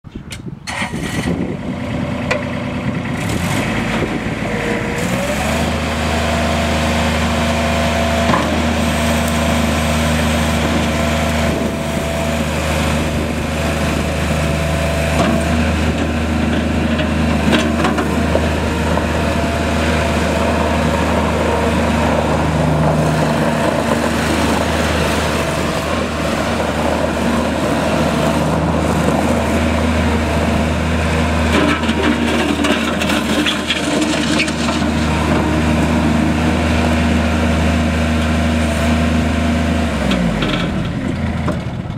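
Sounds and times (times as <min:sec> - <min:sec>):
diesel engine droning: 0:00.1 - 0:41.9.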